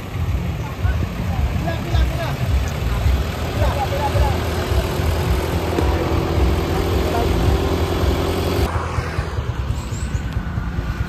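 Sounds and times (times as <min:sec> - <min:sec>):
vehicle engine pulsing: 0:00.0 - 0:11.0.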